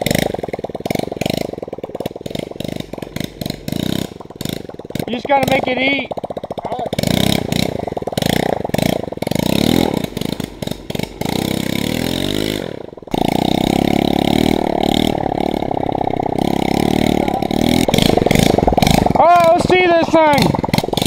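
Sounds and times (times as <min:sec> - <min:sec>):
small motorbike engine revving: 0:00.0 - 0:21.0.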